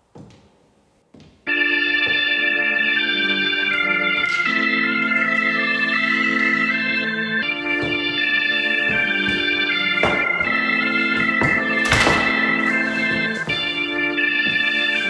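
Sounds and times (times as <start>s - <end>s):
organ chord with melody: 1.5s - 15.0s.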